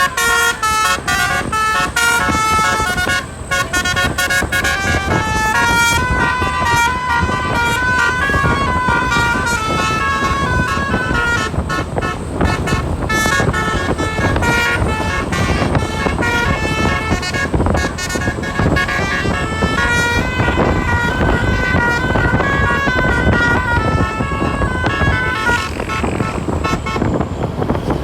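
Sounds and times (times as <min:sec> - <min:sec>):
multi-tone air horn tune: 0:00.0 - 0:27.7
steady low rumble: 0:00.0 - 0:28.0.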